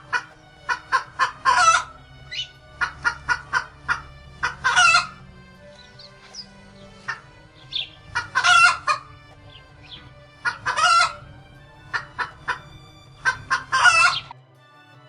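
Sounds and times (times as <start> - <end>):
chicken calling loudly: 0.0 - 14.3
chicken clucking: 0.0 - 14.3
faint background music: 0.0 - 15.0.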